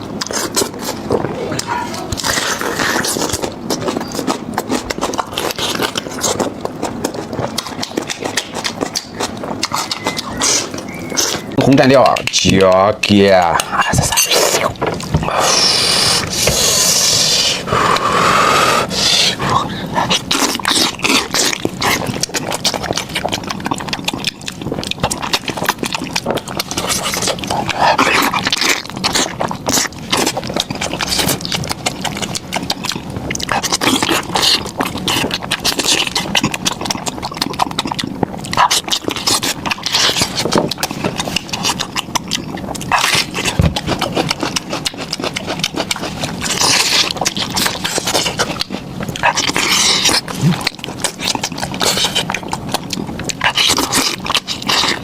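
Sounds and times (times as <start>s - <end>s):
wet chewing and lip-smacking: 0.0s - 55.0s.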